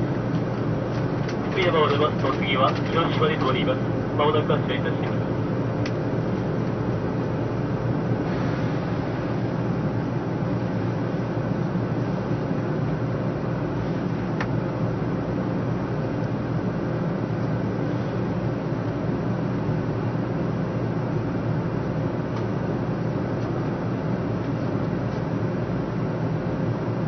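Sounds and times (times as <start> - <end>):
train car interior hum: 0.0 - 27.0.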